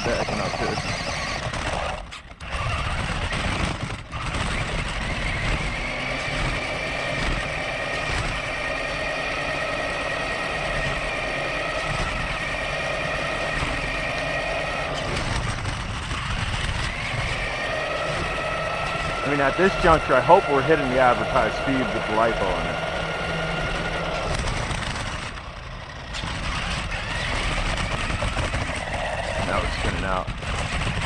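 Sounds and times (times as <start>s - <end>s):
electric motor whining: 0.0s - 31.0s
road rumble: 0.0s - 31.0s.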